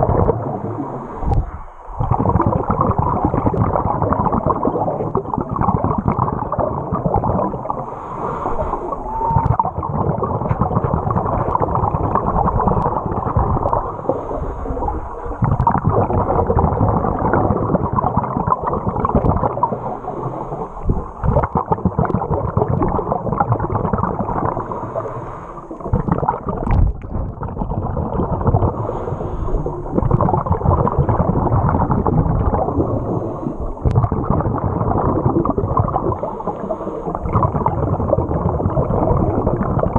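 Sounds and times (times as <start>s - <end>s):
underwater river rumble and gurgling: 0.0s - 39.9s.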